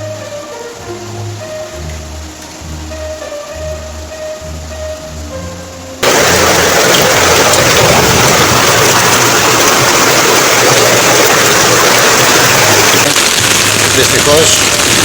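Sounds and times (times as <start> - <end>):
background music: 0.0 - 15.0
floodwater flowing: 0.0 - 15.0
heavy rain: 0.0 - 15.0.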